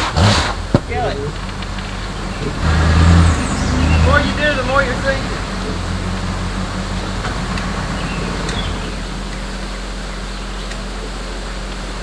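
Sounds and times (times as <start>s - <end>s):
steady hiss: 0.0s - 12.0s
van engine idling: 0.0s - 12.0s.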